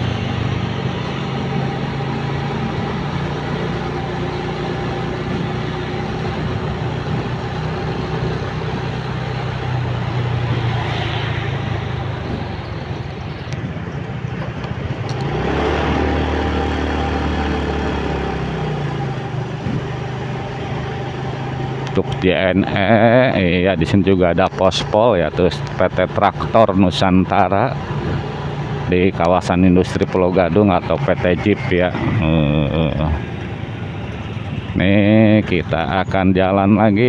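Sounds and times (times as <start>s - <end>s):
deeper engine sound: 0.0s - 37.0s
motorcycle engine cruising: 0.0s - 37.0s
wind and road noise: 0.0s - 37.0s.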